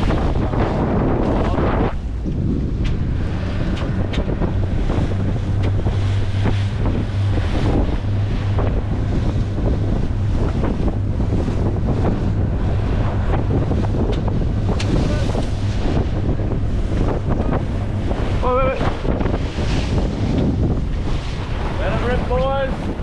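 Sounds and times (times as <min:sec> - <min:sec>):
steady low hum: 0:00.0 - 0:23.0
water wash: 0:00.0 - 0:23.0
wind buffeting microphone: 0:00.0 - 0:23.0.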